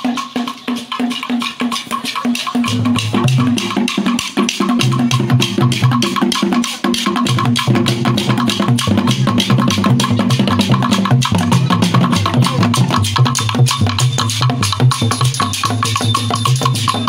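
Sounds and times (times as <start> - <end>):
rapid dense drumming: 0.0 - 17.0.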